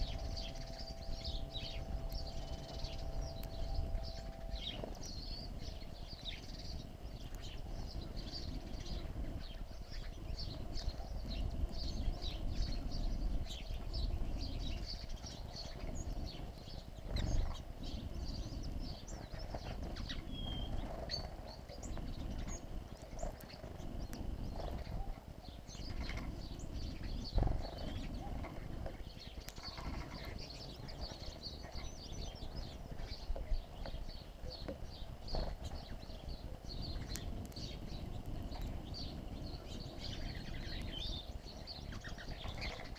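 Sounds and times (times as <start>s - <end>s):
low background rumble: 0.0s - 42.9s
small birds chirping: 0.0s - 42.9s.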